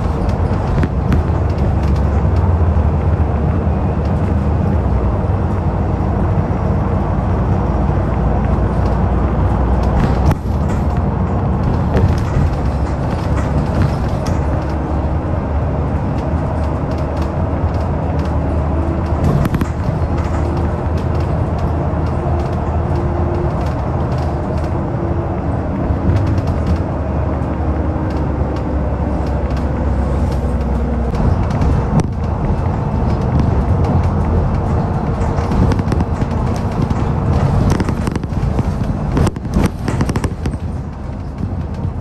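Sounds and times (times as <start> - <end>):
bus engine drone: 0.0 - 42.0
road noise: 0.0 - 42.0.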